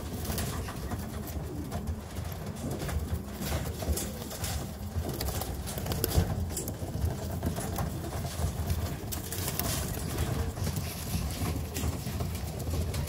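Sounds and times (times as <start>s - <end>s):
pigeons cooing: 0.0s - 13.0s
wings flapping and rustling: 0.0s - 13.0s.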